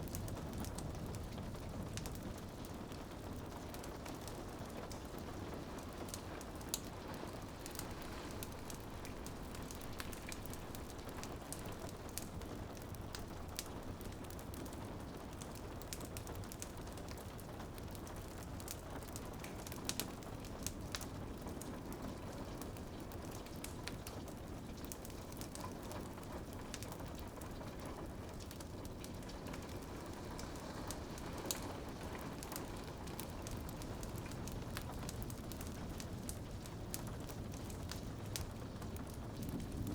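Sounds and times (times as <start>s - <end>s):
rain pattering on a window: 0.0s - 39.9s
wood fire crackling: 0.0s - 39.9s.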